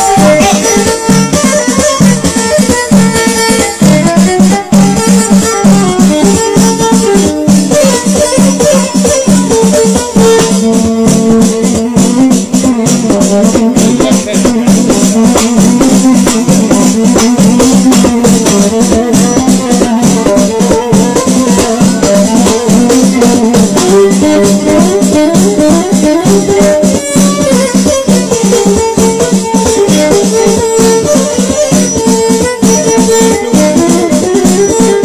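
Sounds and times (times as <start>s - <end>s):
frame drums: 0.0s - 35.0s
rattling percussion: 0.0s - 35.0s.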